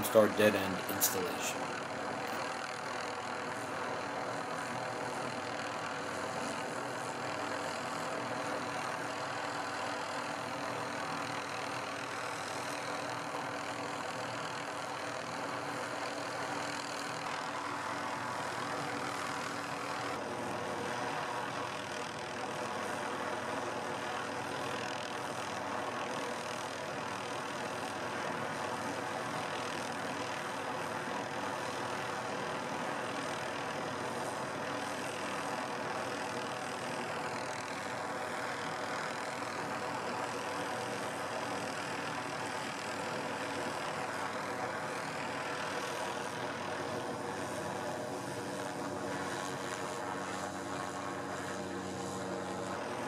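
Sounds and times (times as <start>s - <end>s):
helicopter hovering: 0.0s - 53.0s.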